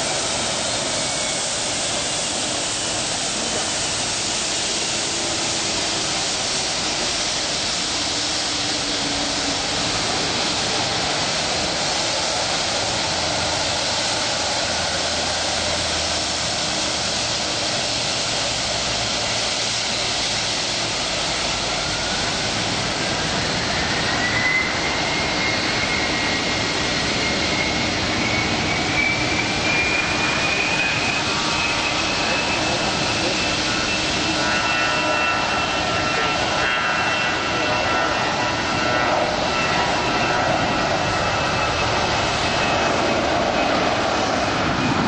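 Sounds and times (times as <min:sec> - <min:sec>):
jet engine high whine: 0:00.0 - 0:45.0
jet engine rushing hiss: 0:00.0 - 0:45.0.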